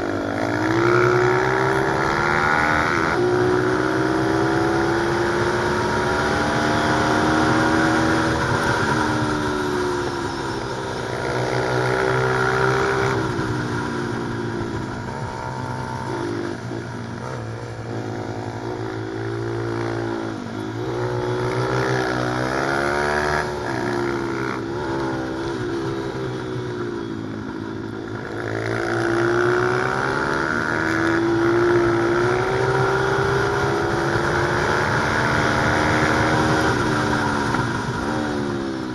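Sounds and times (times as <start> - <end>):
motorbike engine revving hard: 0.0 - 26.6, 28.1 - 38.9.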